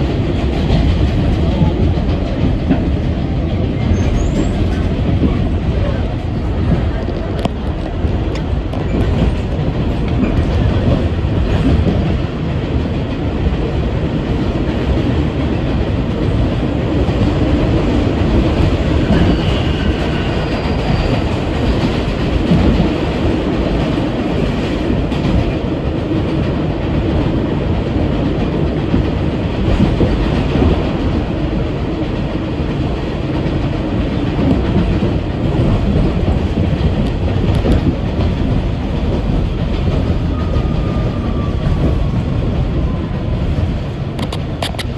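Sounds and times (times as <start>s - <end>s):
subway wheels rumbling on rail: 0.0s - 44.9s.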